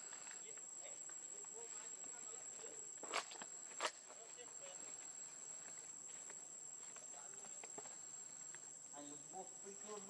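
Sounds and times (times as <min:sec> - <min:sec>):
insect drone: 0:00.0 - 0:10.0.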